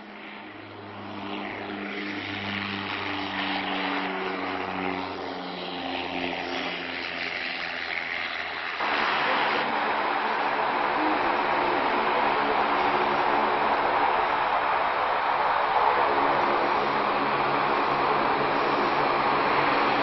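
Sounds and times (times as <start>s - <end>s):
aircraft engines: 0.0s - 20.0s.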